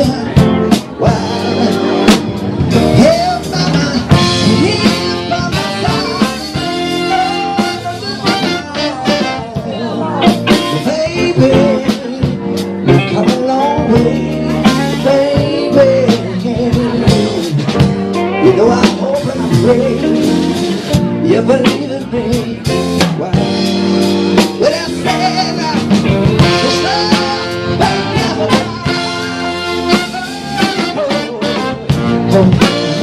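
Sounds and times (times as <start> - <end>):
live band playing: 0.0 - 33.0.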